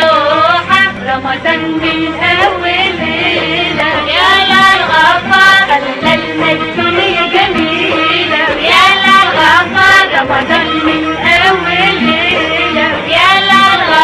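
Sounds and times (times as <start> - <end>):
instrumental accompaniment: 0.0 - 14.0
voices singing a melody: 0.0 - 14.0.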